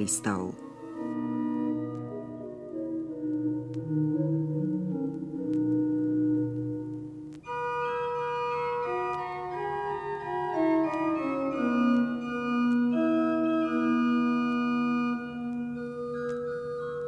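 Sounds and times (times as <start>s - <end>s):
organ chords: 0.6s - 17.0s.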